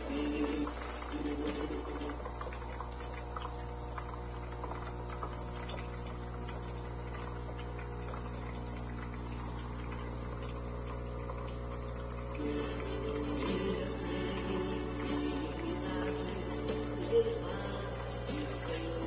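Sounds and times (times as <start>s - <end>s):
coffee machine pump buzzing: 0.0s - 19.0s
faint crackling of water: 0.0s - 19.0s.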